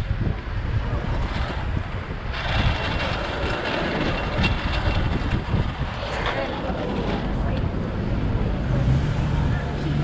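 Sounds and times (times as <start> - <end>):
skate wheels rolling on asphalt: 0.0 - 10.0.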